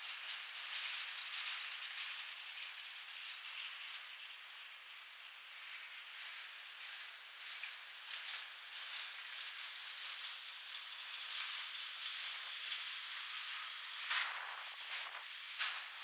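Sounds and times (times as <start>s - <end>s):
train cars rolling on rails: 0.1s - 16.0s.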